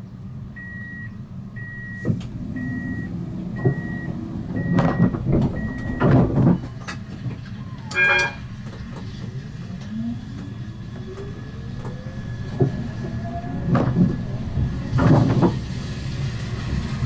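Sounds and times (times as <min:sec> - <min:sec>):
tram drive whine rising: 0:00.0 - 0:17.0
tram rumbling on rails: 0:00.0 - 0:17.0.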